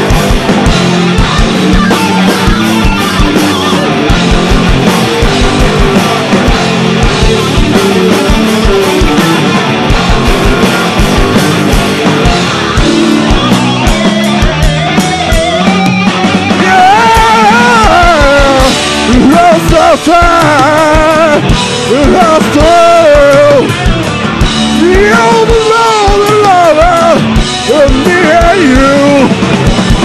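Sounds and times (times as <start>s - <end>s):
fast kick drum beat: 0.0s - 30.0s
live rock band playing: 0.0s - 30.0s.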